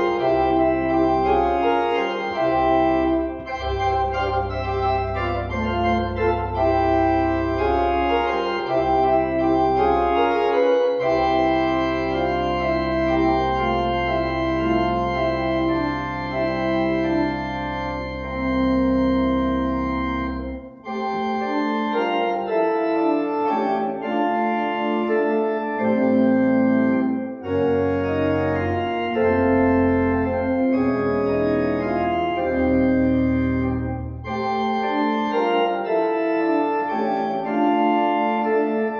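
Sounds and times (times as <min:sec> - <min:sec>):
deep organ pedal bass: 0:00.0 - 0:38.9
organ playing held chords: 0:00.0 - 0:38.9.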